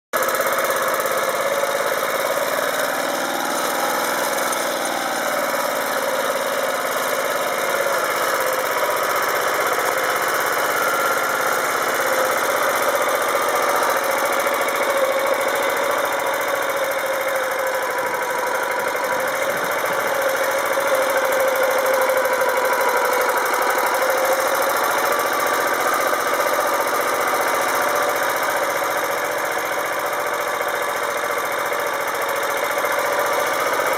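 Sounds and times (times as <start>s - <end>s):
walk-behind tractor engine running: 0.2s - 33.9s.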